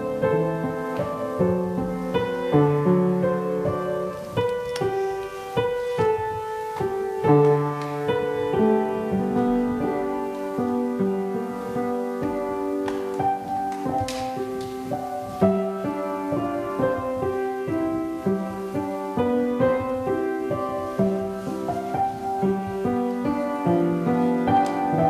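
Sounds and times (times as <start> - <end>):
piano piece: 0.0 - 25.0.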